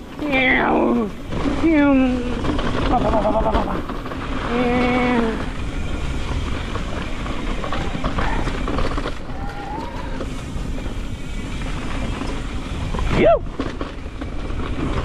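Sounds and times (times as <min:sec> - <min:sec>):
bike rattling: 0:00.0 - 0:15.0
tyres rumbling on dirt: 0:00.0 - 0:15.0.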